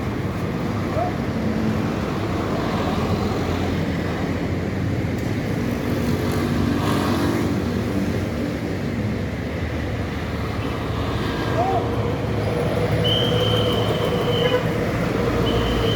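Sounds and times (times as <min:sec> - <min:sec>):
road and tyre noise: 0:00.0 - 0:15.9.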